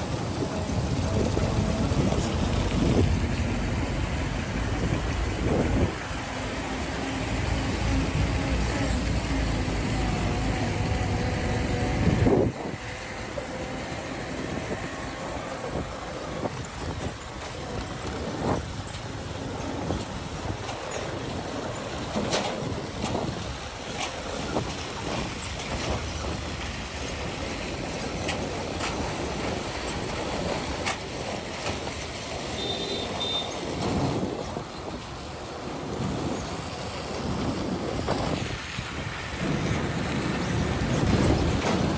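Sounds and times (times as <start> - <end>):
vehicle engines rumbling in traffic: 0.0 - 41.9.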